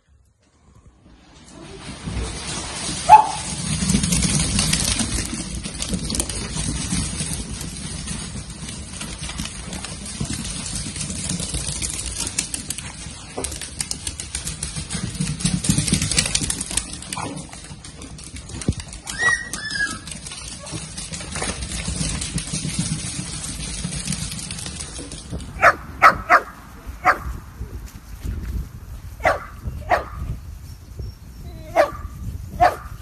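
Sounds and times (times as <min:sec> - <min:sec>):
low rumble of paws: 0:00.0 - 0:33.0.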